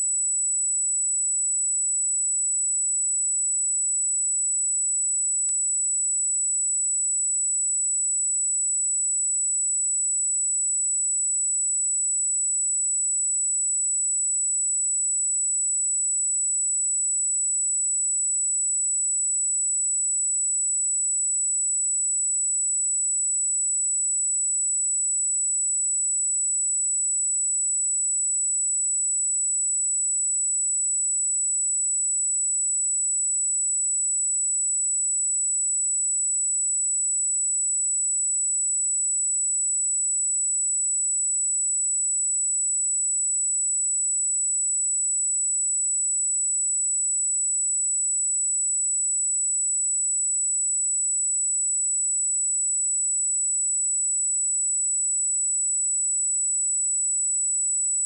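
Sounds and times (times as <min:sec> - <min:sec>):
high-pitched sine test tone: 0:00.0 - 0:58.0.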